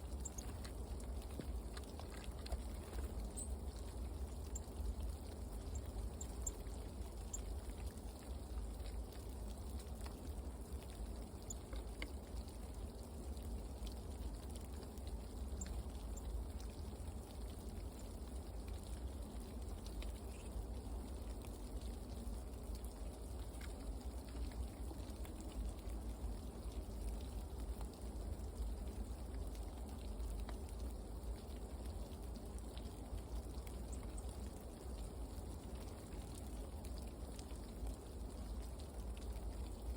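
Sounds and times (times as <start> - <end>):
faint ticks: 0.0 - 39.9.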